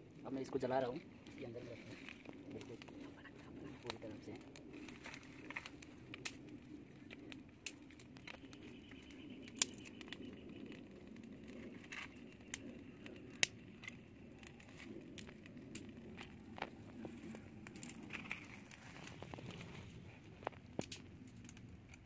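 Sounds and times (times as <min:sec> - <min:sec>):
twig fire crackling and popping: 0:00.0 - 0:22.0.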